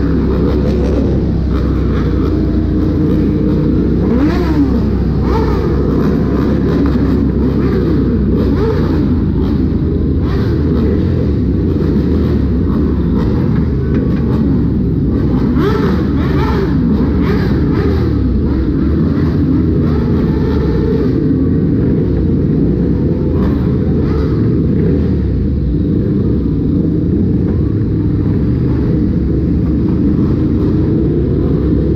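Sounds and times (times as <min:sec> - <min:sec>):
motorbike engines revving: 0:00.0 - 0:31.9.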